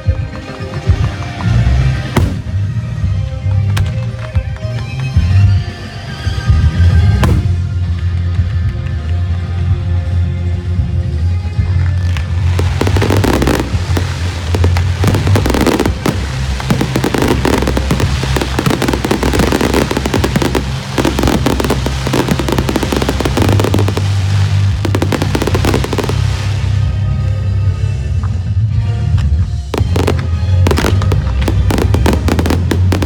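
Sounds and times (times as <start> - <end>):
fireworks crackling and banging: 0.0 - 6.1, 6.8 - 28.5, 29.1 - 33.0
music with low bass: 0.0 - 33.0.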